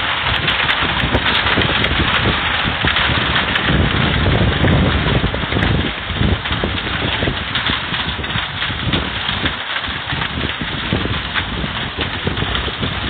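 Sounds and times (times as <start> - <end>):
hailstones hitting: 0.0 - 13.0
heavy rain hiss: 0.0 - 13.0.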